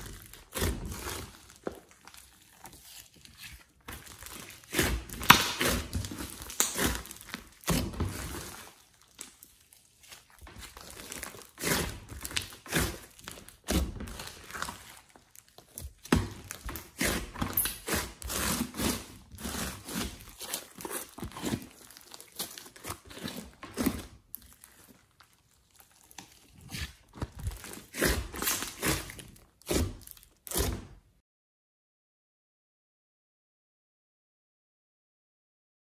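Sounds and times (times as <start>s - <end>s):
hands squishing slime: 0.0s - 31.0s
wet squelches and crackles: 0.1s - 30.6s.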